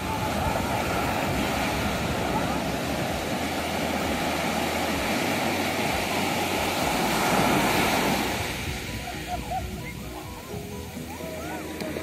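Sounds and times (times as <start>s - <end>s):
ocean surf on a beach: 0.0s - 12.0s.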